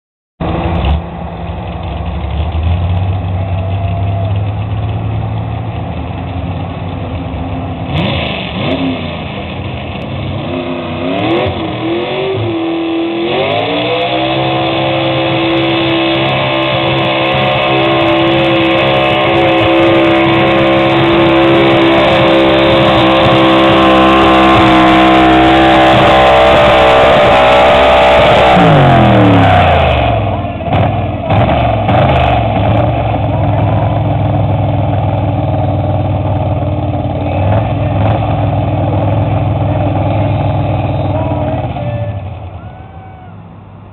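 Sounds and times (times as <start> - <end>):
pickup truck engine revving: 0.4 - 43.9.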